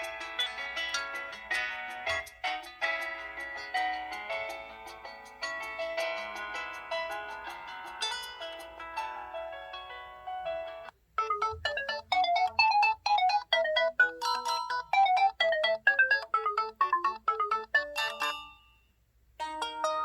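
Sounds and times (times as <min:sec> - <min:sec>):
ringtone melody: 0:00.0 - 0:18.9.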